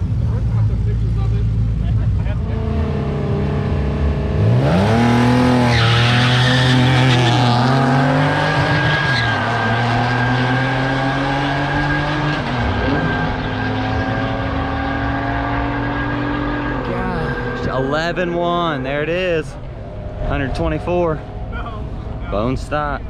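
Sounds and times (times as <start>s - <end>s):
racing car engine revving: 0.0s - 23.0s
tires squealing: 4.4s - 23.0s.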